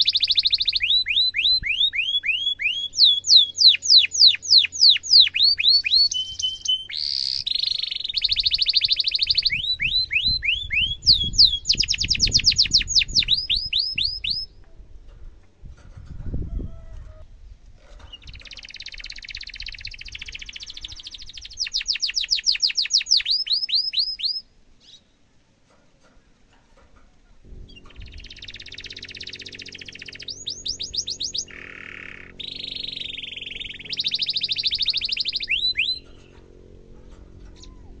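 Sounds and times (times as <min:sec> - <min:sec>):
canary singing trills: 0:00.0 - 0:14.6, 0:17.9 - 0:25.2, 0:27.6 - 0:38.0.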